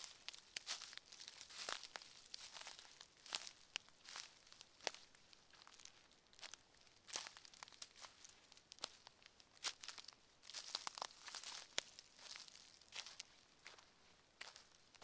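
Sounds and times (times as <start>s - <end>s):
footsteps on forest floor: 0.0s - 9.0s, 9.6s - 14.7s.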